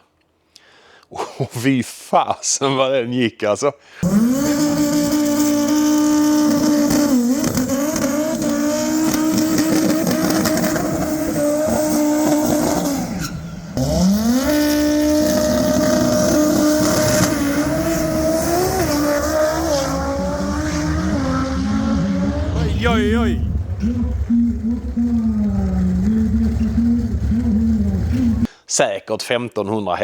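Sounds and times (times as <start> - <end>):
race car engine revving: 4.0 - 28.5.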